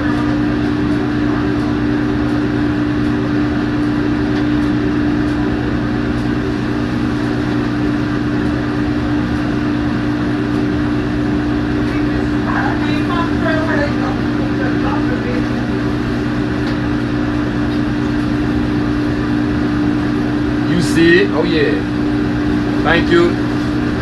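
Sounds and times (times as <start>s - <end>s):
kitchen equipment drone: 0.0s - 24.0s.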